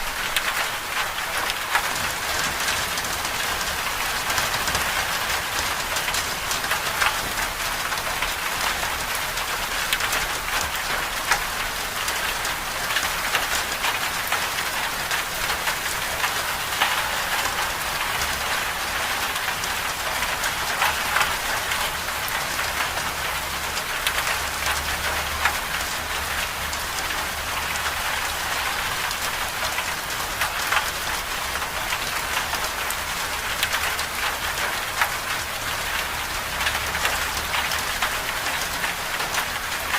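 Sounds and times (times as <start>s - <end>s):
rain falling: 0.0s - 39.9s
raindrops ticking: 0.1s - 39.9s.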